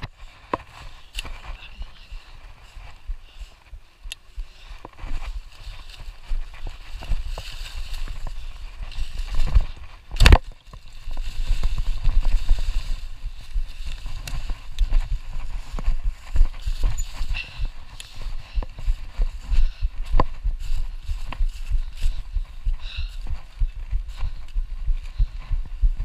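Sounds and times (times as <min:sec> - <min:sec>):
tyres crackling through leaves: 0:00.0 - 0:25.2
bike riding over rough ground: 0:04.4 - 0:26.0
bike rattling: 0:04.5 - 0:26.0.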